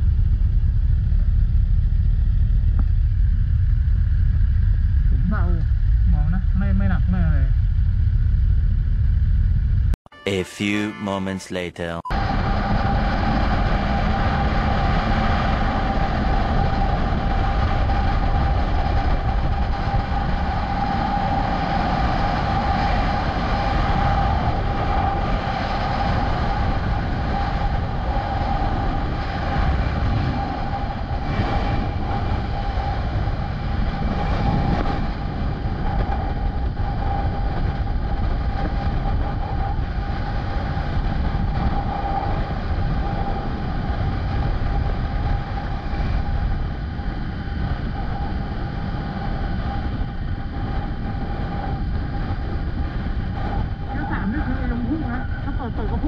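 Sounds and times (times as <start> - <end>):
wind rushing over microphone: 0.0 - 10.0, 12.2 - 56.0.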